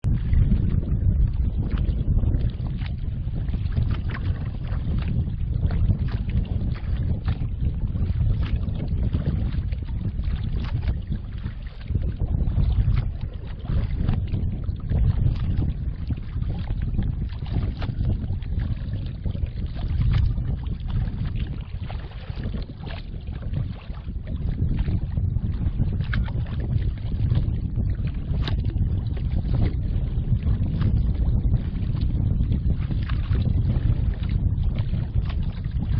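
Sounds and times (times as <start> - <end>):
wind buffeting microphone: 0.0 - 35.9
paddle splashes and drips: 0.1 - 29.8, 30.4 - 35.7.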